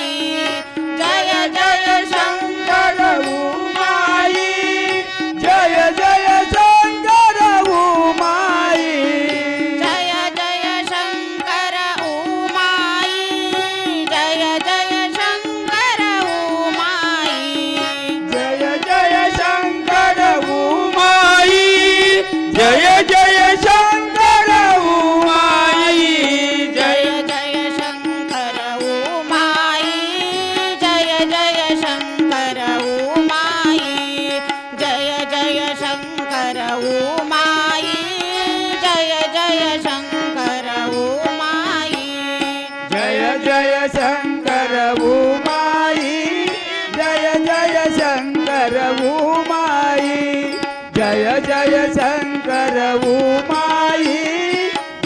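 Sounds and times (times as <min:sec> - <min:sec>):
harmonium melody over drone: 0:00.0 - 0:55.0
tabla drumming: 0:00.0 - 0:55.0.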